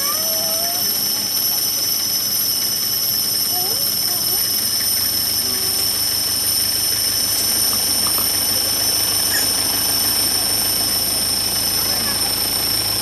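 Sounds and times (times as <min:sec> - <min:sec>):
insect chorus shrilling: 0:00.0 - 0:13.0
low steady hum: 0:00.0 - 0:13.0.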